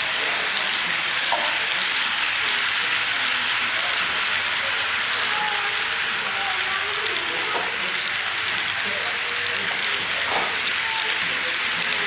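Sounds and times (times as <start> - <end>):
model train wheels rolling: 0.0 - 12.0.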